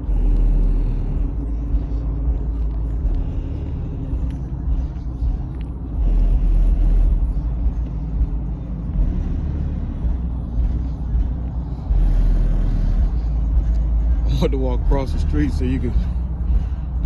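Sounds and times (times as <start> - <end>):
deep bass music rumble: 0.0 - 17.0.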